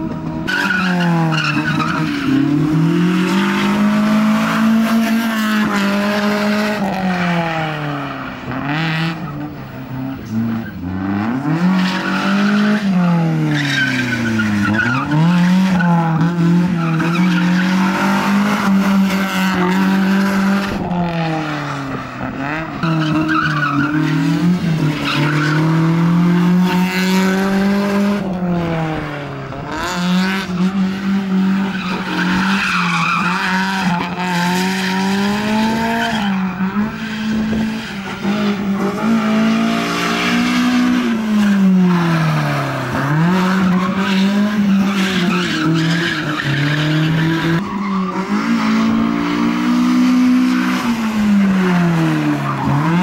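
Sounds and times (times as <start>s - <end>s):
car engine revving high: 0.2s - 53.0s.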